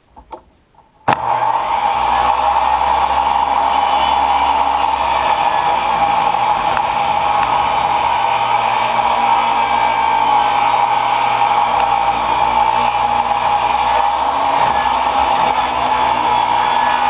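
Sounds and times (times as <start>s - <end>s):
table saw whining: 1.1s - 17.0s.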